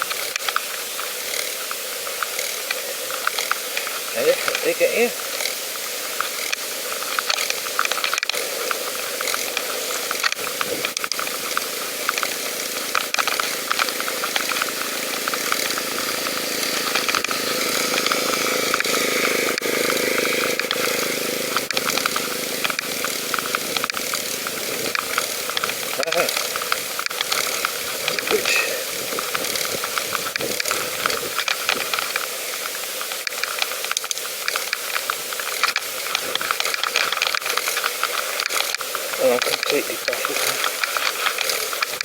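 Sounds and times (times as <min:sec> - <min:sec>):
bike clicks and rattles: 0:00.0 - 0:42.0
wind and tyre hiss: 0:00.0 - 0:42.0.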